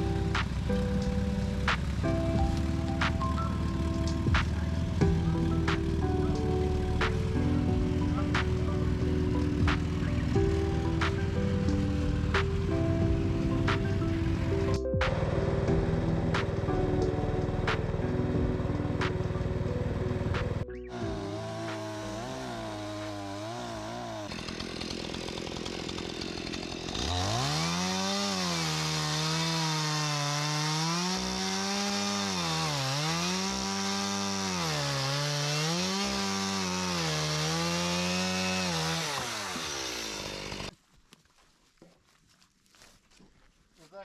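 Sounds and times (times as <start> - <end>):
gas-powered saw cutting: 0.0 - 40.7.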